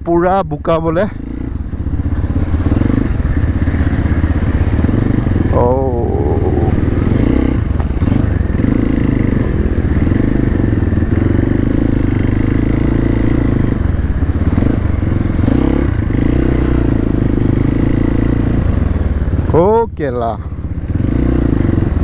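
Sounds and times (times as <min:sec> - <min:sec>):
motorcycle engine running loudly: 0:00.2 - 0:22.0.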